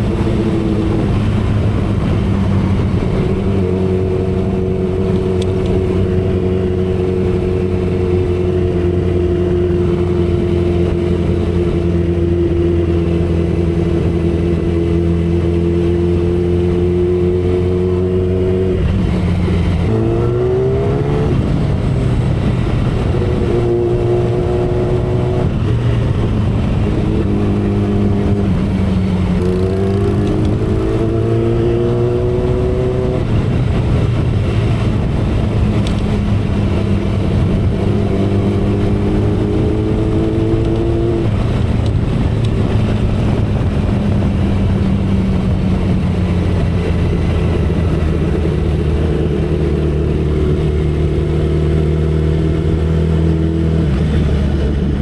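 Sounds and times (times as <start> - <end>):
motorcycle engine and exhaust: 0.0 - 55.0
wind rush: 0.0 - 55.0.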